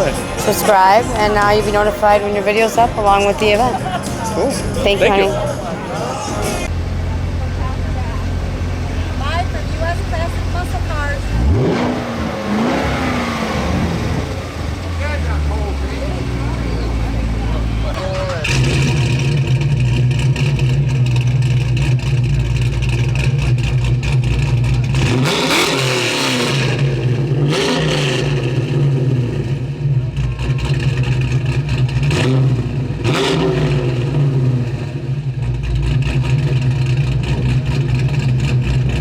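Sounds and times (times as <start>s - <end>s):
engine idling with deep beat: 0.0s - 11.4s, 14.4s - 25.6s, 28.6s - 39.0s
engine revving: 7.5s - 39.0s.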